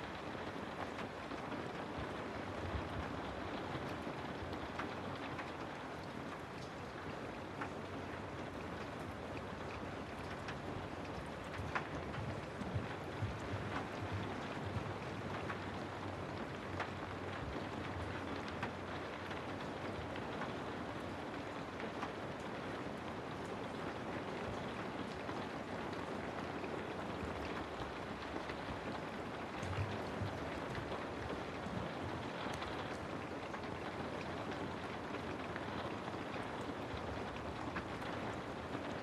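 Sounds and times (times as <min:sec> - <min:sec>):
steady rain patter: 0:00.0 - 0:39.0.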